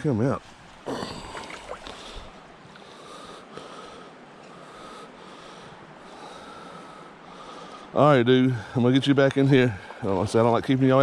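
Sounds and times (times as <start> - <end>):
stream water rushing: 0.4 - 11.0.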